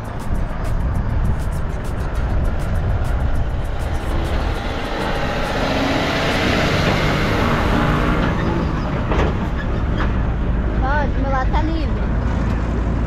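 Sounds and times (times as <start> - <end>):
rushing noise: 0.0 - 11.2
engine and road noise: 0.0 - 13.0.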